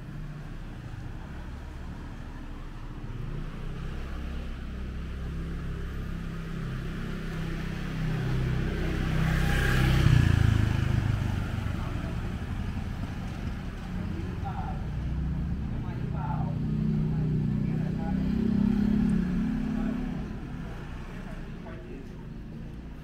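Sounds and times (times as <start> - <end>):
vehicle passing by: 0.0 - 23.0.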